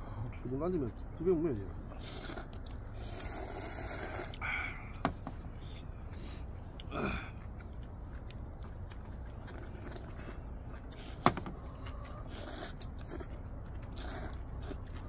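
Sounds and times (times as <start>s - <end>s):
people slurping and chewing noodles: 0.9s - 15.0s.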